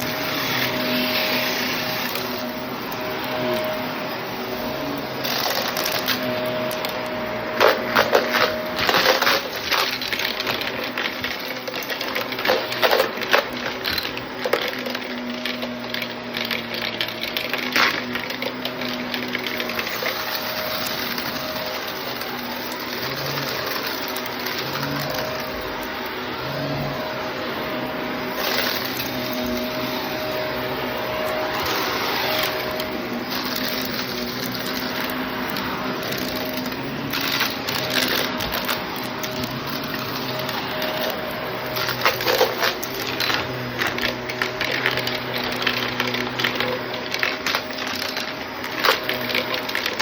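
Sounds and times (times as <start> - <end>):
debris rattling through vacuum: 0.0 - 50.0
vacuum cleaner motor hum: 0.0 - 50.0.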